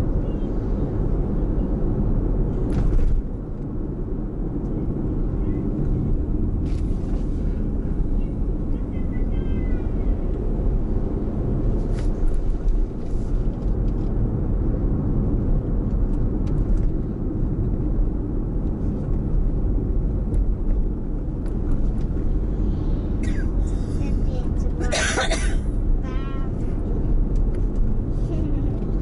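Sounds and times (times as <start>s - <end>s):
engine and tyre rumble: 0.0s - 29.0s.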